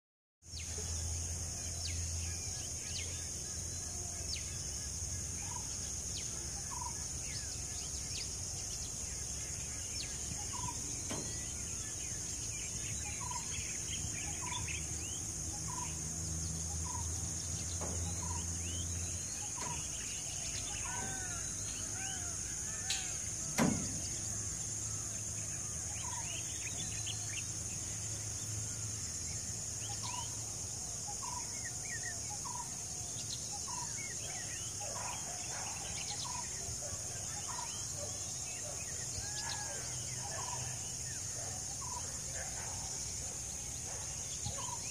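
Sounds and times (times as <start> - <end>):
birds calling: 0.6 - 44.9.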